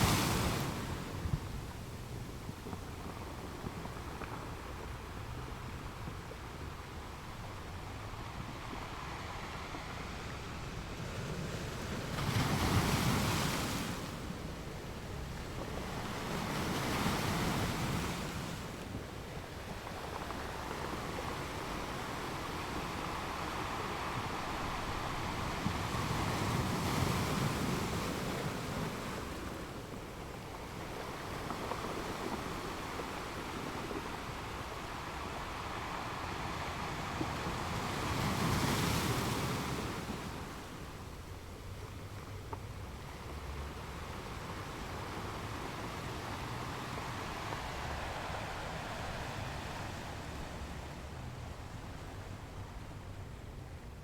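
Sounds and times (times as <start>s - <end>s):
sea waves breaking: 0.0s - 42.1s, 42.9s - 53.8s.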